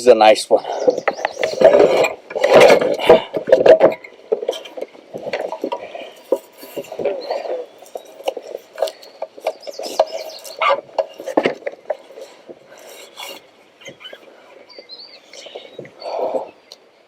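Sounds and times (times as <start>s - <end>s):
rubbing and scraping: 0.8s - 16.5s.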